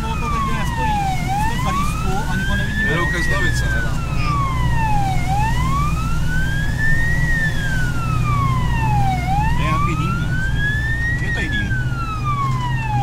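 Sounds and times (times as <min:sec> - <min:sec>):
diesel truck engine drone: 0:00.0 - 0:13.0
fire engine siren wailing: 0:00.0 - 0:13.0.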